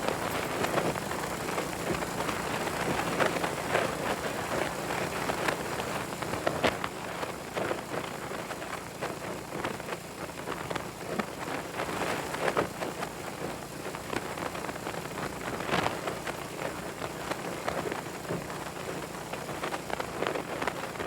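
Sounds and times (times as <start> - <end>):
faint motorcycle engine: 0.0 - 21.0.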